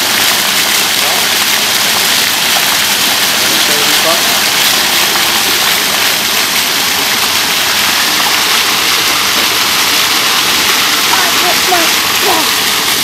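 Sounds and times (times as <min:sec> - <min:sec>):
fountain water jets splashing: 0:00.0 - 0:13.0.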